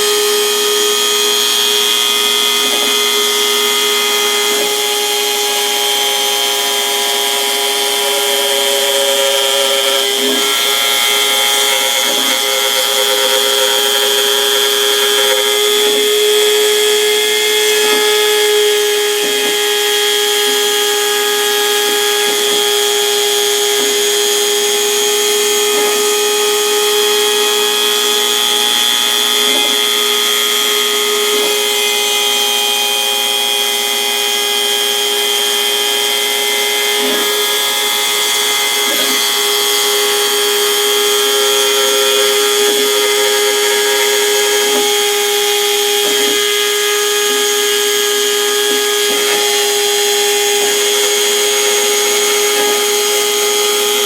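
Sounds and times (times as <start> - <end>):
router bit cutting wood: 0.0 - 54.0
router spindle whine: 0.0 - 54.0.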